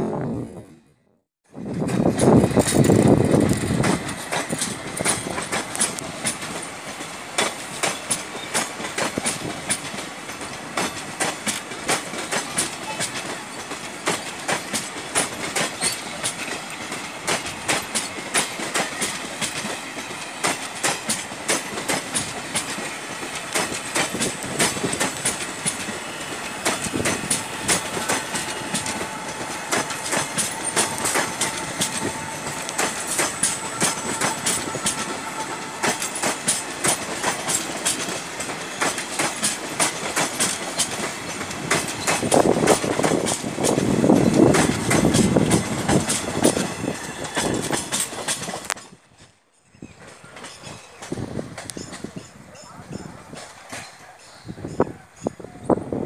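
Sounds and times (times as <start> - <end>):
train rumble: 1.5 - 56.0
train wheels clicking over rail joints: 1.6 - 55.5.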